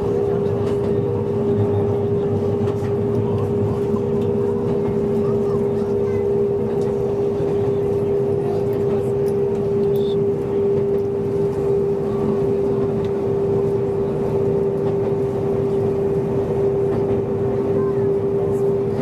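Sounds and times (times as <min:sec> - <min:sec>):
constant mid-pitched hum: 0:00.0 - 0:19.0
train running rumble: 0:00.0 - 0:19.0.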